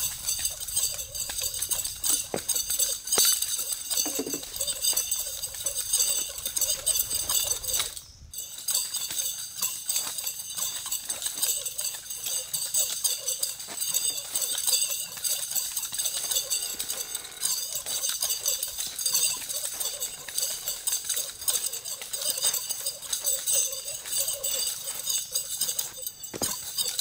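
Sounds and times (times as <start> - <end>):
high-pitched insect chorus: 0.0 - 27.0
nunchaku handles clicking: 0.0 - 27.0.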